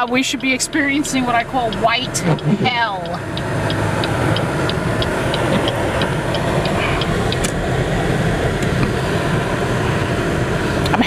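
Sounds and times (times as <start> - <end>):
car engine and tyres rumbling: 0.0 - 11.0
sharp ticking: 0.0 - 11.0.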